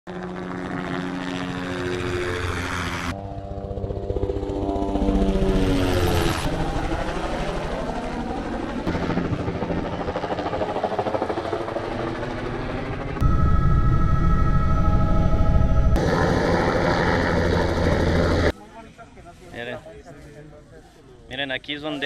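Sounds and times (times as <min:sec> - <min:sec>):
helicopter flying overhead: 0:00.1 - 0:18.6.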